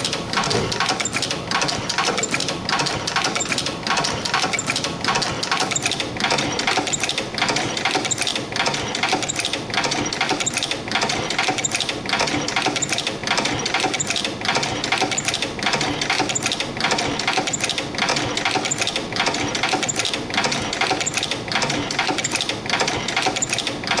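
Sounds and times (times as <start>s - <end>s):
spring making machine clattering: 0.0s - 24.0s.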